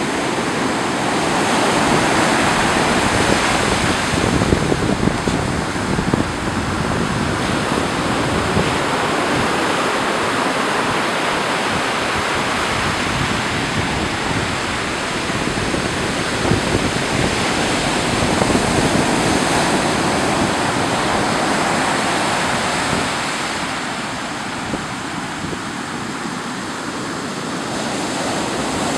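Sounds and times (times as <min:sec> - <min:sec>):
ocean surf breaking on beach: 0:00.0 - 0:28.9.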